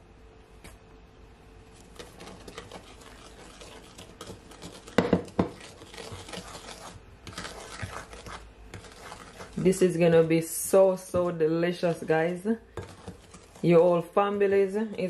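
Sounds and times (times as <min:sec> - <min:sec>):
wooden spoon scraping bowl: 0:01.7 - 0:15.0.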